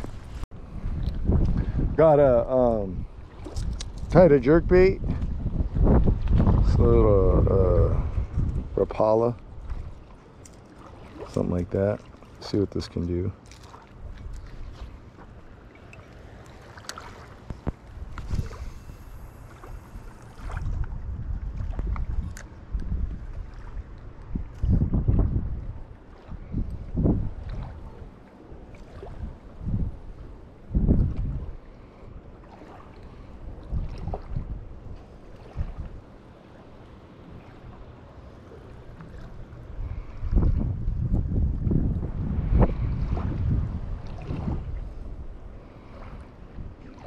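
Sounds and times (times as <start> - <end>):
wind buffeting microphone: 0.0 - 10.2, 16.5 - 36.1, 38.9 - 47.0.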